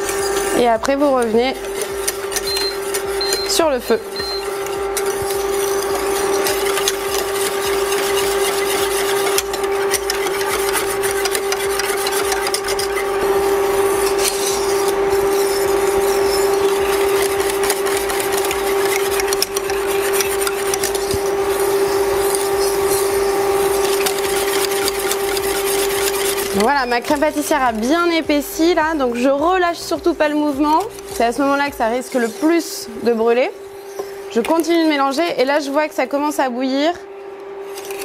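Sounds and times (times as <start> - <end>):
whisk scraping a saucepan: 0.0 - 36.4, 37.6 - 38.0
steady hum: 0.0 - 38.0.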